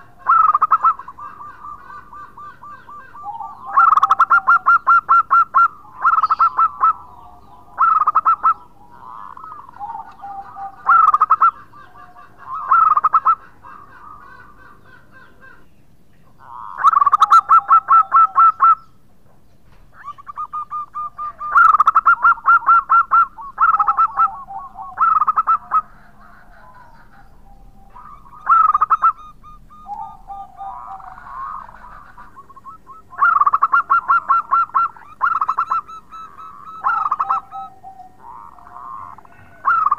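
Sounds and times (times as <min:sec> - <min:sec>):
low drawn-out dove coos: 0:00.0 - 0:18.9, 0:19.8 - 0:39.9
dove pulsed cooing: 0:00.0 - 0:19.0, 0:19.6 - 0:39.9.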